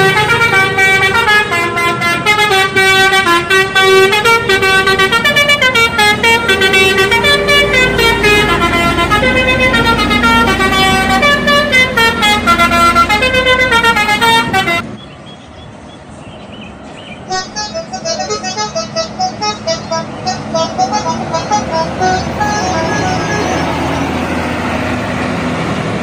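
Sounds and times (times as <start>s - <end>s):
multi-tone air horn melody: 0.0s - 14.9s, 17.2s - 24.2s.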